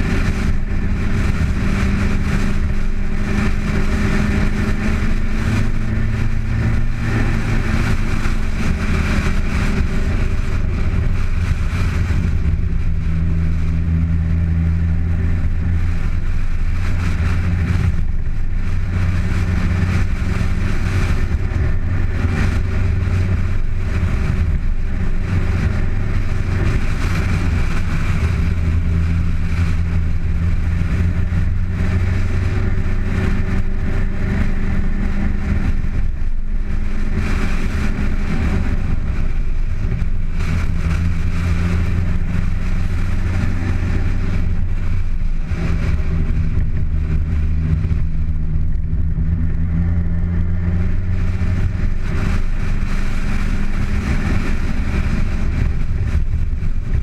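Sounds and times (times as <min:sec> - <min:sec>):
car engine under load: 0:00.0 - 0:57.0
road and wind noise: 0:00.0 - 0:57.0.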